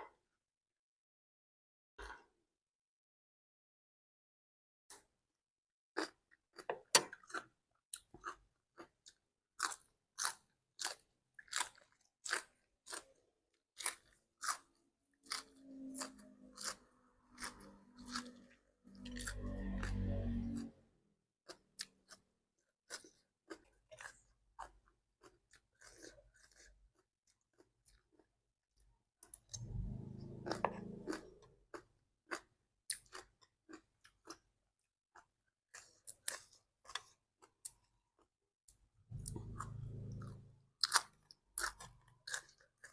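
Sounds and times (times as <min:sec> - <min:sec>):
person chewing crunchy vegetables: 0:06.0 - 0:20.7, 0:21.4 - 0:34.6, 0:35.2 - 0:42.9.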